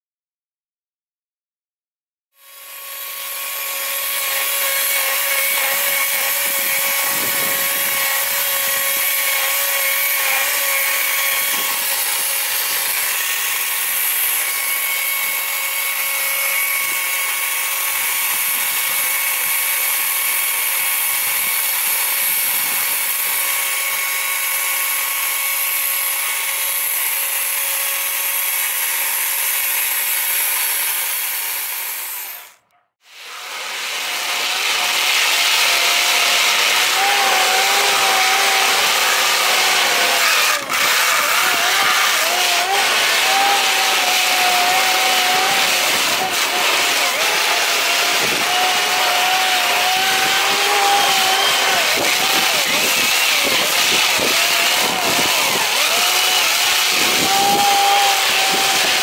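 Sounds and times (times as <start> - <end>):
chainsaw cutting wood: 2.4 - 59.0.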